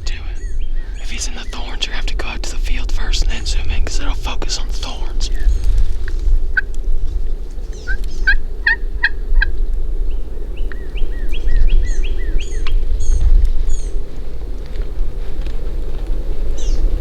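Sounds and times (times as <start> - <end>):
wild turkey calling: 0.0 - 14.0
wind rumble on microphone: 0.0 - 17.0.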